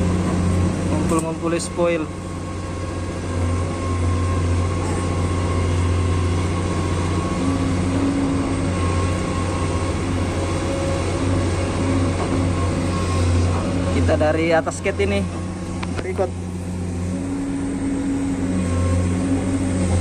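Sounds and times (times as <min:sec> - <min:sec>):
heavy diesel engine droning: 0:00.0 - 0:20.0
higher hum: 0:02.1 - 0:20.0.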